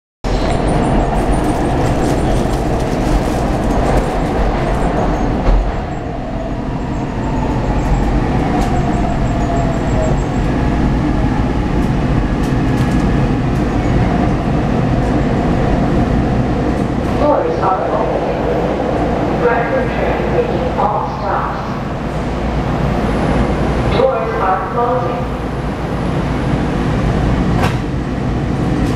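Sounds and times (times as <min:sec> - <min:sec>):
train car rumble and rattle: 0:00.2 - 0:28.9.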